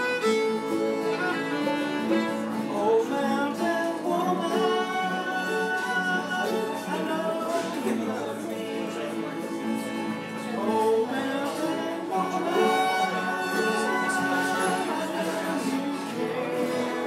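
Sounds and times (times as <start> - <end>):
acoustic string accompaniment: 0.0 - 17.0
man singing: 0.6 - 17.0.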